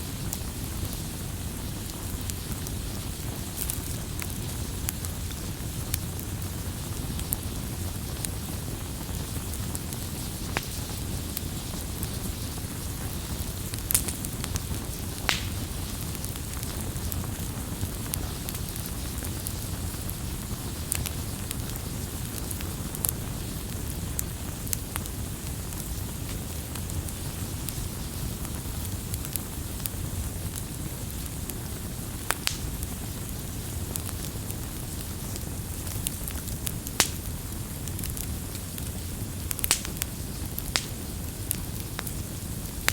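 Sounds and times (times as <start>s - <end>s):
campfire flames rumbling: 0.0s - 42.9s
fire crackles and pops: 0.0s - 42.9s.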